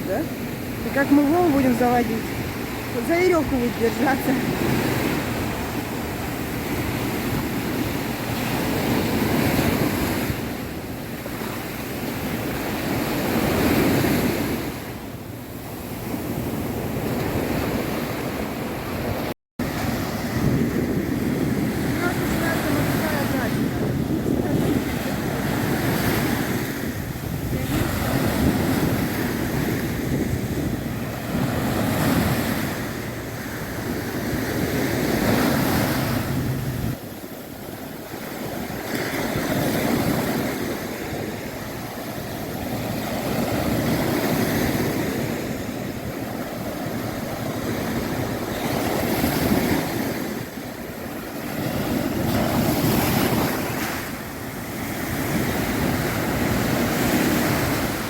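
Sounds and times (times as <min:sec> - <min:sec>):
rough sea surf breaking: 0:00.0 - 0:58.0
wind rumbling on microphone: 0:00.0 - 0:58.0.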